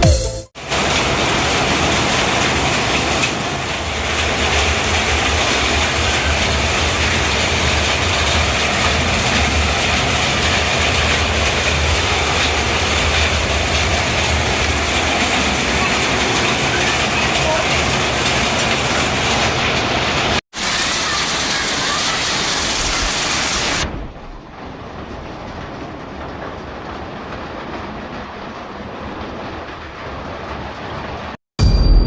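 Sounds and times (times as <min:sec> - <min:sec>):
heavy rain pouring: 0:00.0 - 0:31.4.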